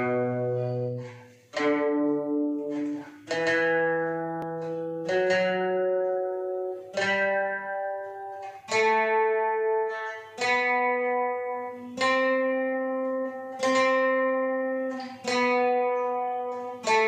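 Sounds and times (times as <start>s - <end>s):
acoustic guitars strumming chords: 0.0s - 17.0s.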